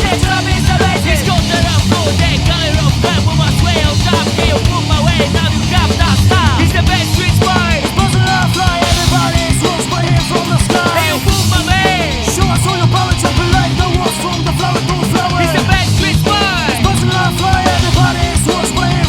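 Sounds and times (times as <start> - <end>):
punk rock band playing: 0.0 - 19.0
sliding high guitar notes: 0.1 - 19.0.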